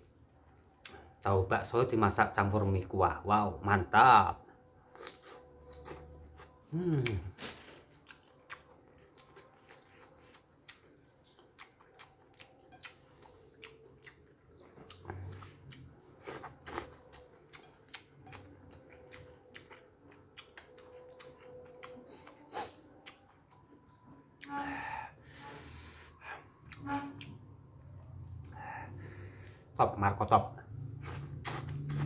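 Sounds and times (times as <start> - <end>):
person chewing food: 4.5 - 24.5, 25.2 - 29.7, 30.8 - 32.0.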